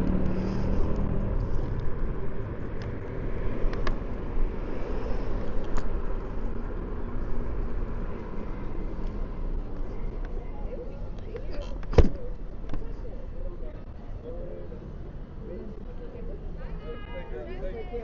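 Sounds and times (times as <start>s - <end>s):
electric scooter road noise: 0.0s - 18.0s.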